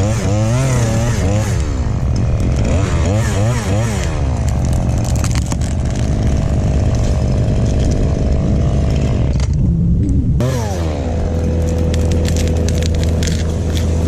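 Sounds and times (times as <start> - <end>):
chainsaw revving: 0.0 - 9.6, 10.4 - 14.0.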